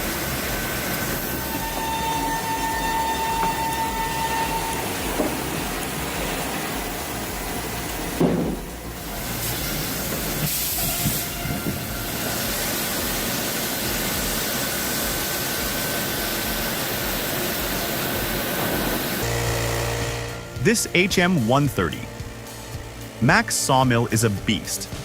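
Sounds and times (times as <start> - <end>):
sawmill machinery hissing: 0.0 - 25.0.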